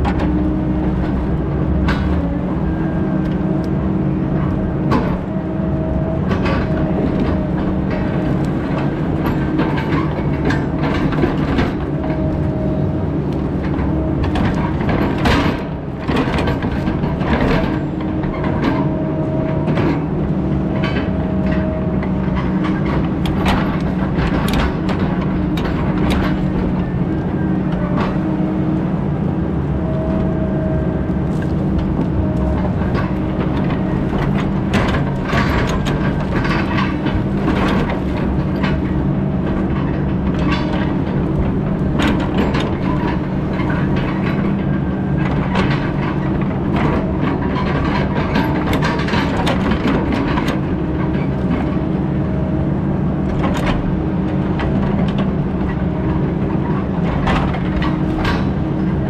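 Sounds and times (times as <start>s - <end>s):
diesel logging machine running: 0.0s - 59.0s.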